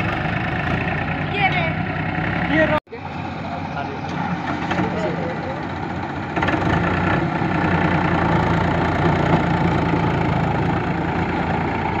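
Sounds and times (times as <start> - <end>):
diesel tractor engine under load: 0.0 - 12.0.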